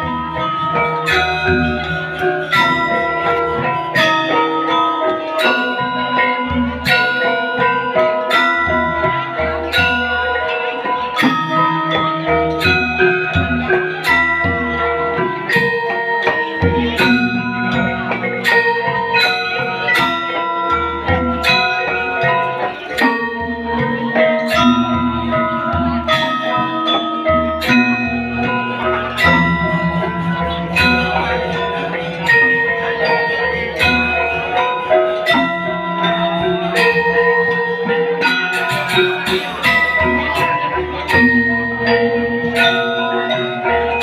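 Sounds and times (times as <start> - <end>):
metallophones struck in pulse: 0.0 - 44.0.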